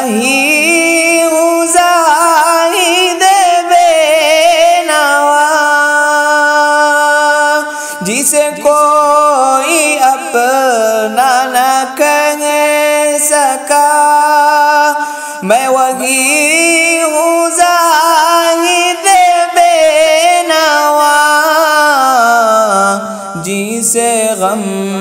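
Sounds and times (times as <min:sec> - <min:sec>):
man singing ornamented notes: 0:00.0 - 0:25.0.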